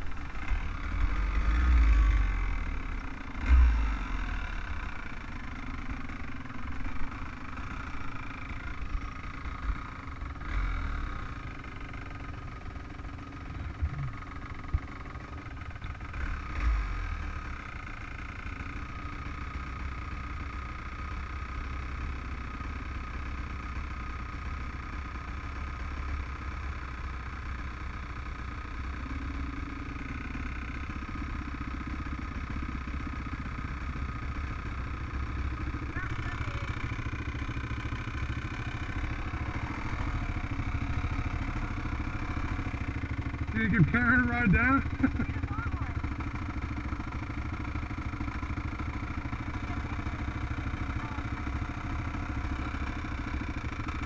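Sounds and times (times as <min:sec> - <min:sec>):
off-road vehicle engine: 0:00.0 - 0:54.0.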